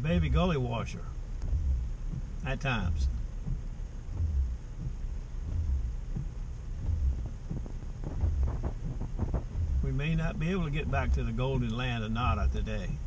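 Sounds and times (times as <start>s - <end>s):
steady hum inside car: 0.0s - 13.0s
windshield wipers thumping: 0.0s - 13.0s.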